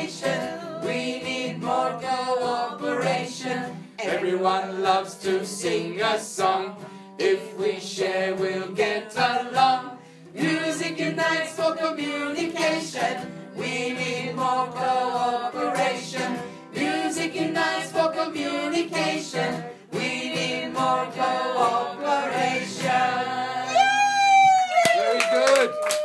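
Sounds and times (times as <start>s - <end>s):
group singing calypso: 0.0s - 23.9s.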